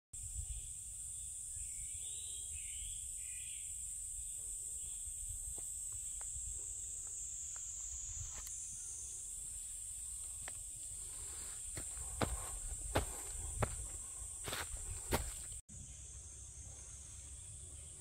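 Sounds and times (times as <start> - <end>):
insects droning: 0.2 - 18.0.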